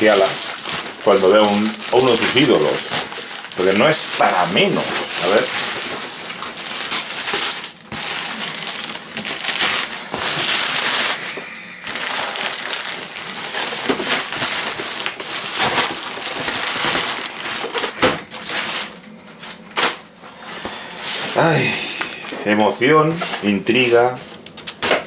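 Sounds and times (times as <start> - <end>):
plastic bag crinkling: 0.0 - 20.0, 21.2 - 25.0.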